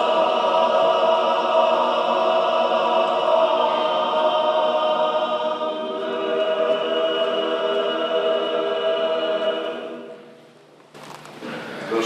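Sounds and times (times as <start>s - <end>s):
choir singing a chant: 0.0s - 10.4s.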